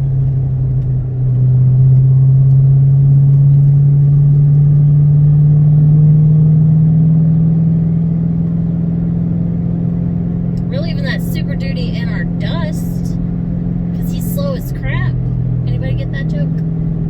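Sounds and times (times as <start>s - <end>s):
car engine droning under load: 0.0s - 17.0s.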